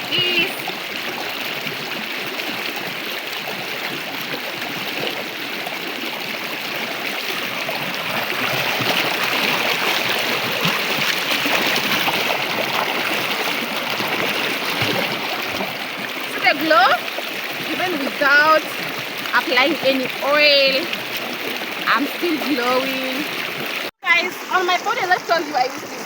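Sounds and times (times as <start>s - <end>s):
river water running: 0.0s - 26.0s.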